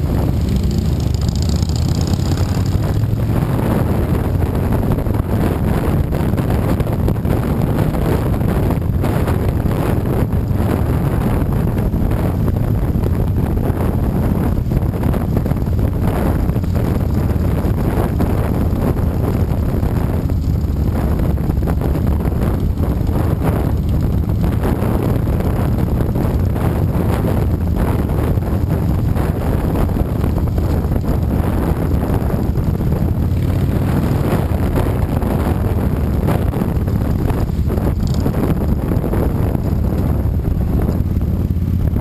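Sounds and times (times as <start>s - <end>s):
motorcycle engine drone: 0.0s - 42.0s
wind buffeting microphone: 0.0s - 42.0s.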